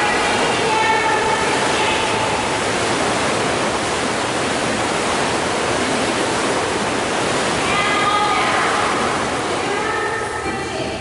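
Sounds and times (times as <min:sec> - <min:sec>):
churning foaming water: 0:00.0 - 0:11.0.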